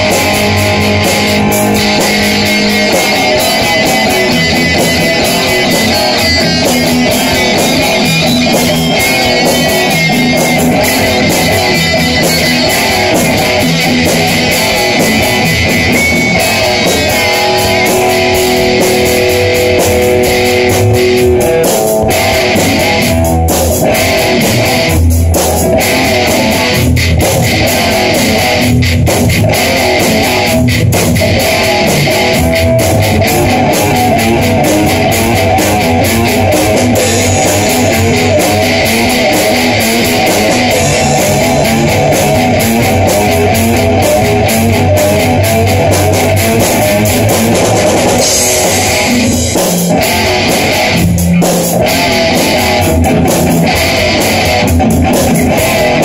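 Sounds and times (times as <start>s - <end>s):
electric guitar: 0.0s - 56.0s
steady low beat: 0.0s - 56.0s.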